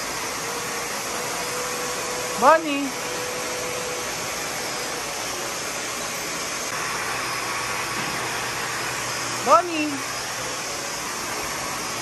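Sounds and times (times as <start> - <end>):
dryer blowing air: 0.0 - 12.0.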